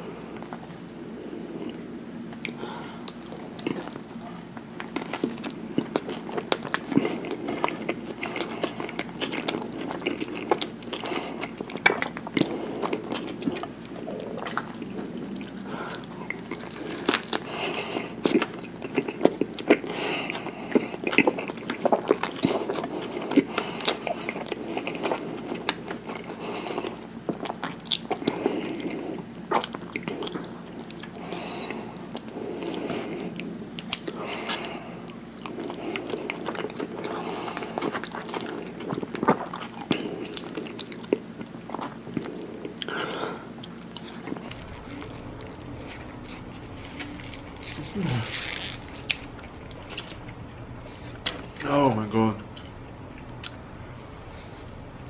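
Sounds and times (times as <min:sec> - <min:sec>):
person chewing food: 0:00.0 - 0:51.6, 0:52.5 - 0:53.6
food crunching: 0:00.0 - 0:51.7.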